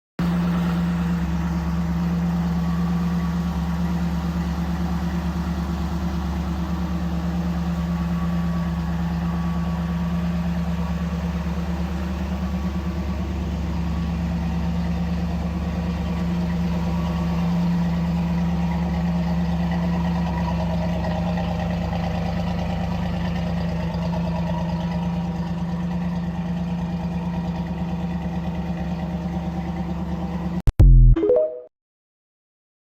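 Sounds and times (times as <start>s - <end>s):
car engine idling: 0.2s - 30.6s.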